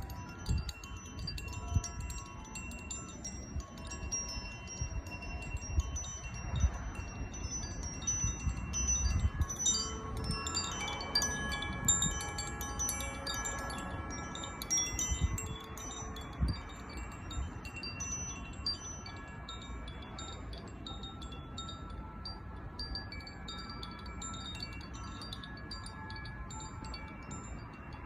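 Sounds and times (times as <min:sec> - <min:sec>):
wind chime ringing: 0:00.0 - 0:28.0.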